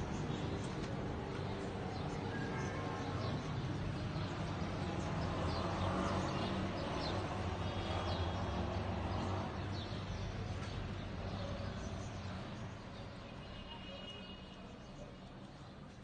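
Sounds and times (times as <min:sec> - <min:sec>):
distant traffic rumble: 0:00.0 - 0:13.9
birds chirping: 0:00.0 - 0:16.0.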